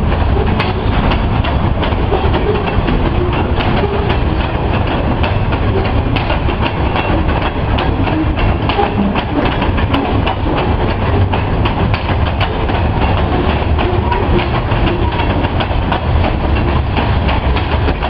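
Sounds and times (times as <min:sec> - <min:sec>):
freight train rumbling past: 0:00.0 - 0:18.0
wheels clicking on rails: 0:00.0 - 0:18.0.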